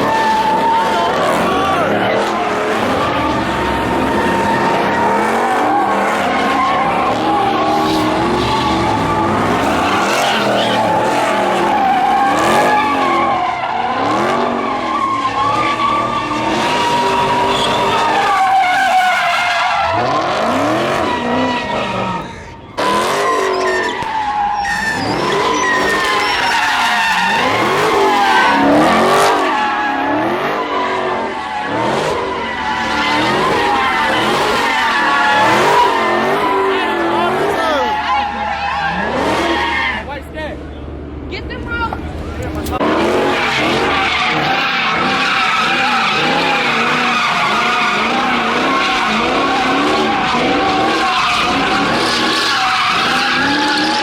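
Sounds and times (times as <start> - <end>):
tyres squealing: 0.0 - 40.4, 41.4 - 54.0
car engines revving: 0.0 - 54.0.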